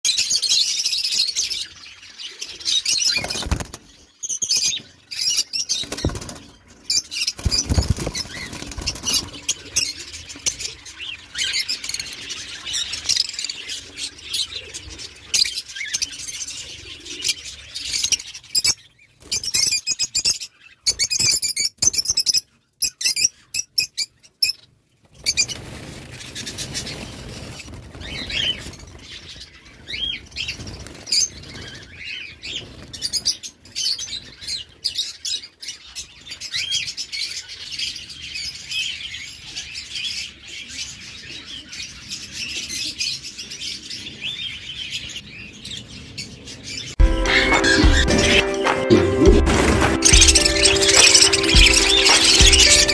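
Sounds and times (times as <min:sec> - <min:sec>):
small birds chirping: 0:00.0 - 0:48.6, 0:50.0 - 0:52.9.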